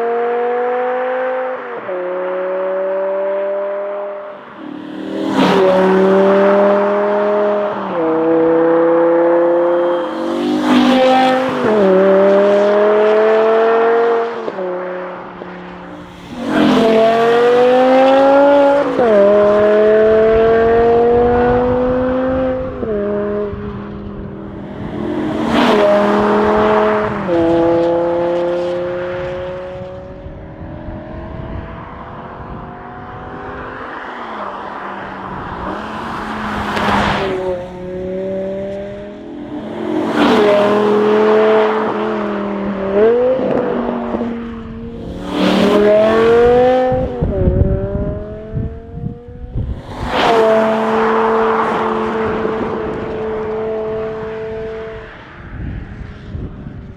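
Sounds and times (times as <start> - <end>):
car engine accelerating through gears: 0.0 - 55.2.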